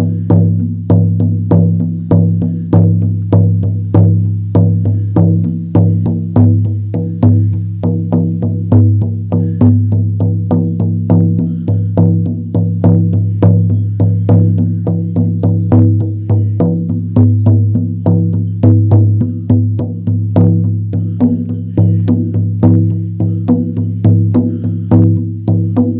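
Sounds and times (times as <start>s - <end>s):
frame drum booming beat: 0.0s - 25.9s.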